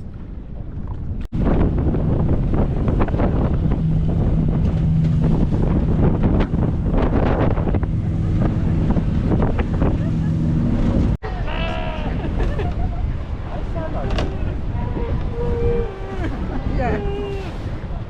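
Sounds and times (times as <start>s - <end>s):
low boat engine hum: 0.0s - 18.0s
wind buffeting microphone: 0.0s - 18.0s.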